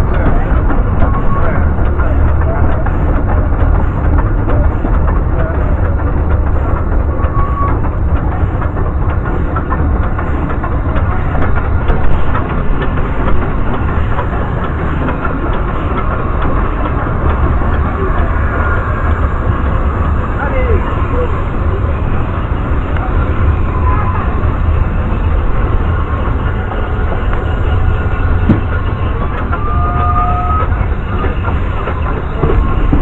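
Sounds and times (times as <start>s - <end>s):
train rumbling and rattling on track: 0.0s - 33.0s.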